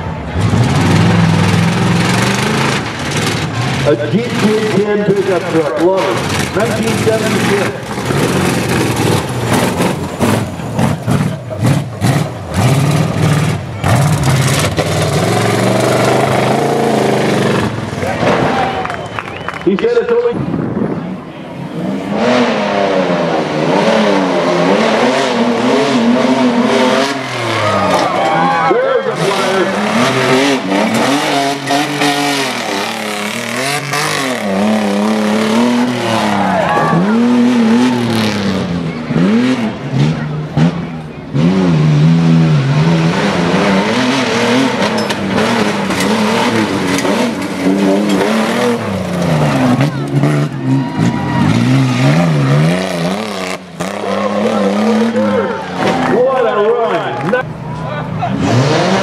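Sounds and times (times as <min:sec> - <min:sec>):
pickup truck engine revving: 0:00.0 - 0:59.0.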